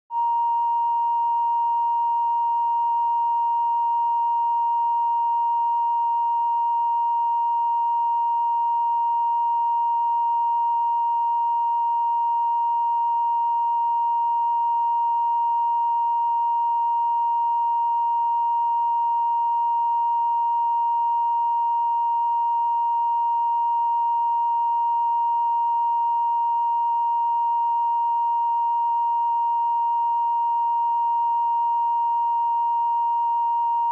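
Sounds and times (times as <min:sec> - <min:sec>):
pure reference test tone: 0:00.1 - 0:33.9.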